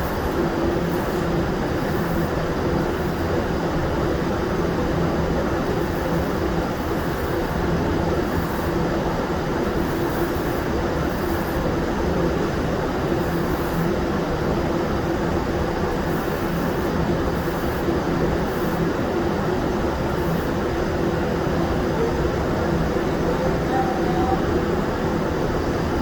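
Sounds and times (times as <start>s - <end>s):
powder-coating machine air rush and hum: 0.0s - 26.0s.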